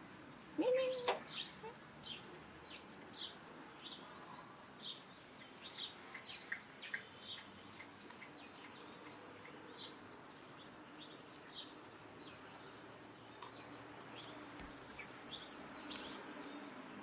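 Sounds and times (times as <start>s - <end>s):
faint background noise: 0.0s - 17.0s
small birds chirping: 0.6s - 17.0s.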